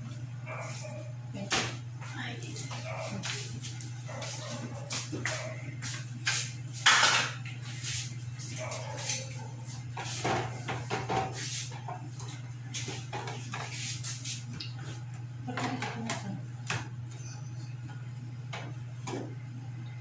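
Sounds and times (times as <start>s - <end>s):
refrigerator hum: 0.0s - 20.0s.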